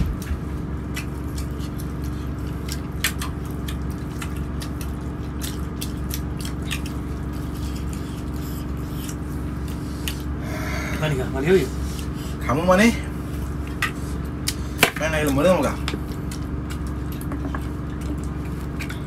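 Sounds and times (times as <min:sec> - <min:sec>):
people eating by hand: 0:00.0 - 0:19.0.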